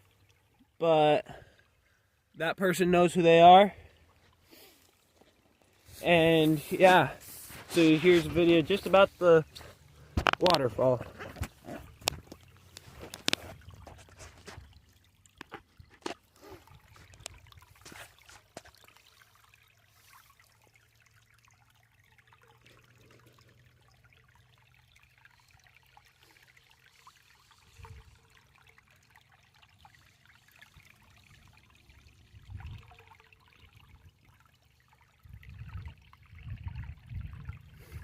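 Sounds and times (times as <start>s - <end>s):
waterfall trickling and splashing: 0.0s - 38.0s.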